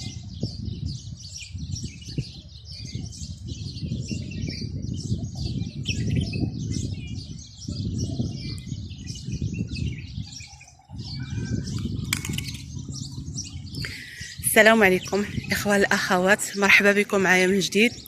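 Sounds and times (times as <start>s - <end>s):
birds chirping chorus: 0.0s - 18.0s.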